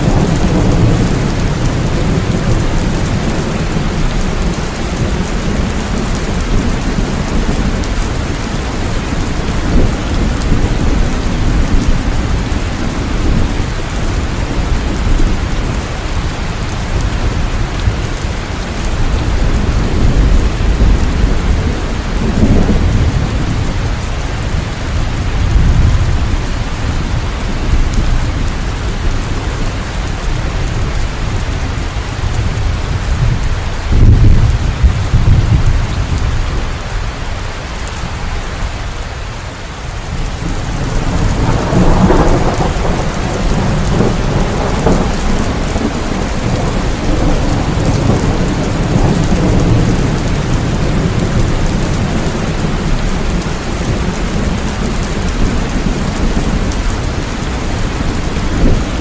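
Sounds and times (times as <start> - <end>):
thunder rumbling: 0.0 - 39.3, 39.9 - 59.0
steady rain falling: 0.0 - 59.0.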